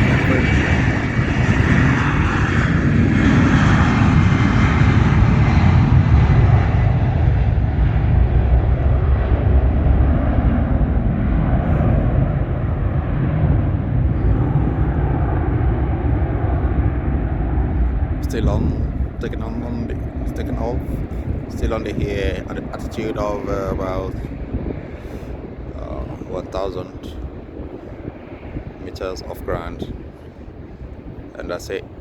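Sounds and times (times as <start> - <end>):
jet taking off: 0.0 - 32.0.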